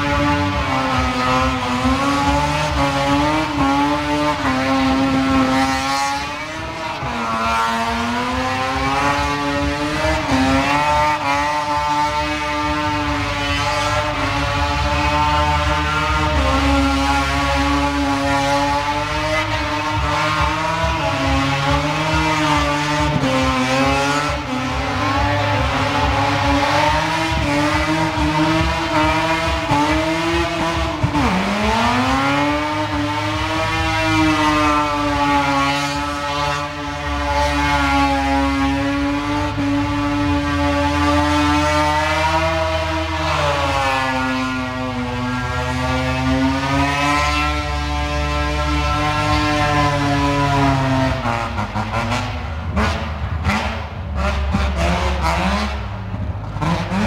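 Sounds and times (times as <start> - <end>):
car engine revving high: 0.0 - 57.0.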